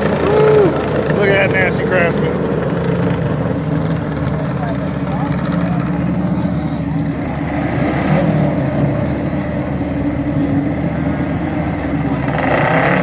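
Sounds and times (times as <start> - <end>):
riding lawn mower engines revving: 0.0 - 13.0.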